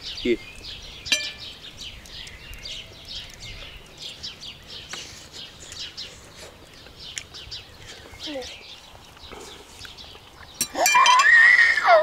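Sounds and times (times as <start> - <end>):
small songbirds chirping: 0.0 - 11.3.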